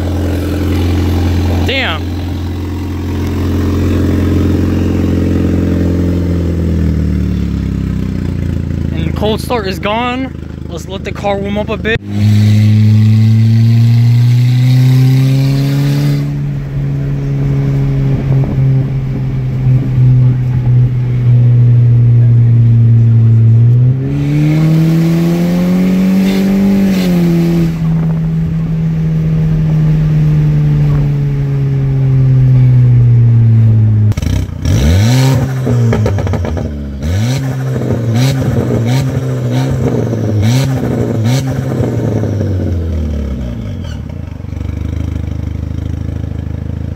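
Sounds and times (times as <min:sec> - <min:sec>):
loud car exhaust idling and revving: 0:00.0 - 0:46.9.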